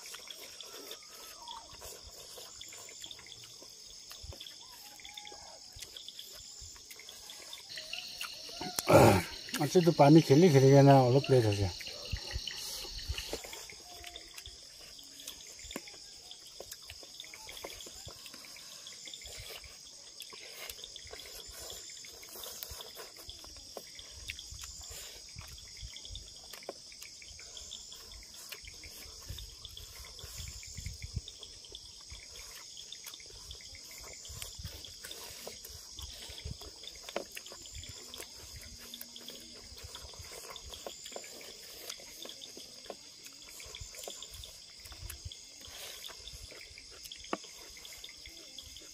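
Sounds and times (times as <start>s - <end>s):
night insects chorus: 0.0s - 48.9s.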